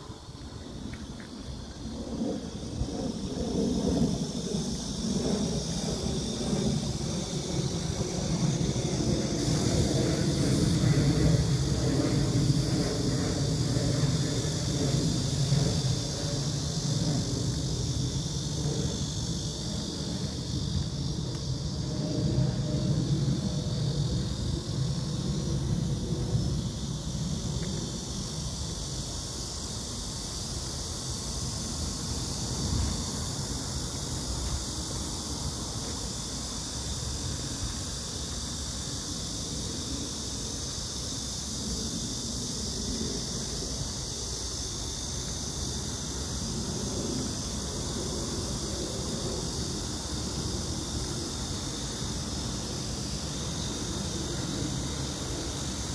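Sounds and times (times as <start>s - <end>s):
insects buzzing: 0.0s - 55.9s.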